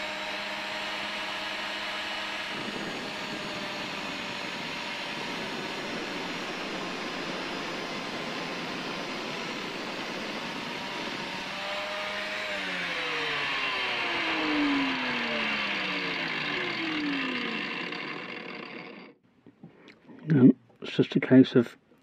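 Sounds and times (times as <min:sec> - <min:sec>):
angle grinder grinding metal: 0:00.0 - 0:19.2.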